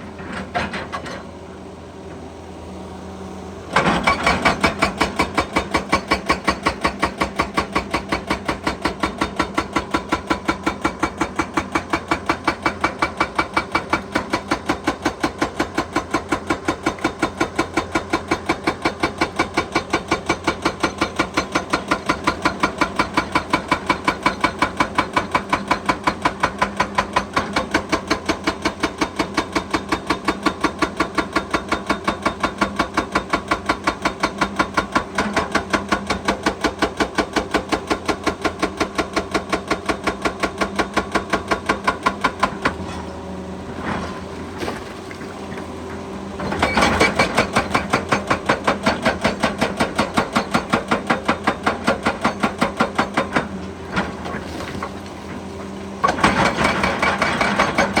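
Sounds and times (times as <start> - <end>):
excavator engine running: 0.0 - 58.0
hydraulic breaker hammer pounding: 3.7 - 43.1, 43.8 - 58.0.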